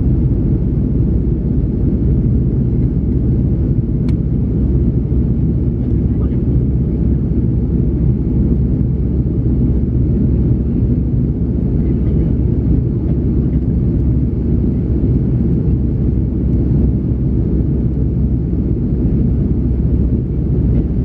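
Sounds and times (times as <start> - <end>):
airplane cabin engine drone: 0.0 - 21.0.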